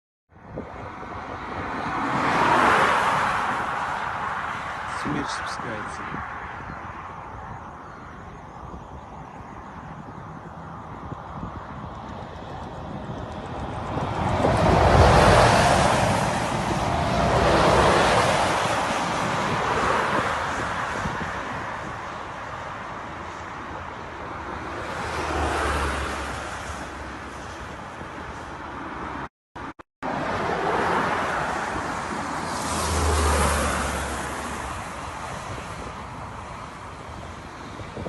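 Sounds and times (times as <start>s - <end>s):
road traffic passing: 0.3s - 38.0s
wind: 0.3s - 38.0s.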